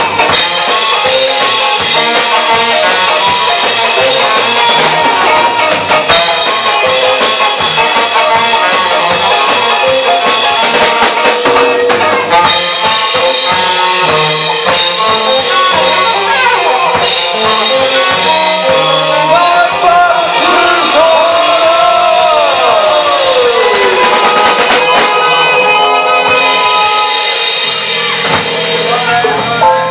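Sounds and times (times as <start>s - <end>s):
saxophone: 0.0s - 28.2s
bass guitar: 0.0s - 29.9s
drum kit: 0.0s - 29.9s
electric guitars: 0.0s - 29.9s.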